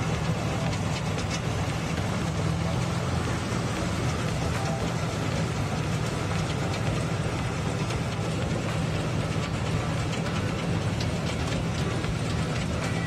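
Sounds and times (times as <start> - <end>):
harvesting machine running: 0.0 - 13.0.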